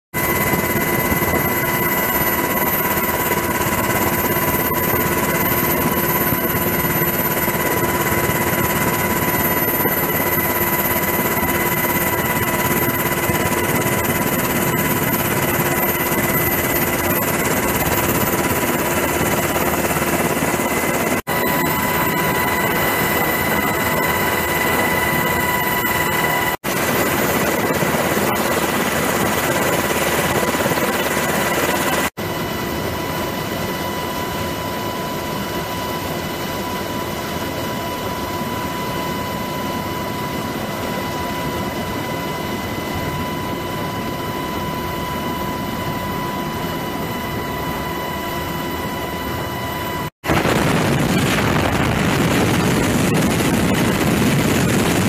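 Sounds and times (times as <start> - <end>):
helicopter rotors and engines: 0.2 - 55.0
high turbine whine: 0.2 - 55.0.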